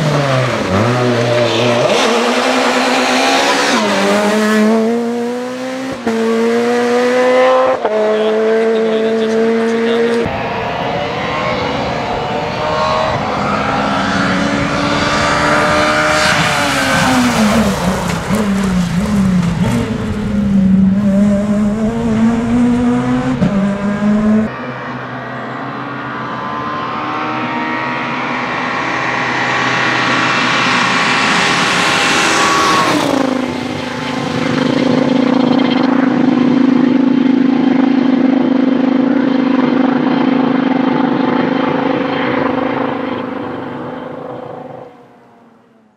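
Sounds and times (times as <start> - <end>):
rally car engine revving past: 0.0 - 45.1.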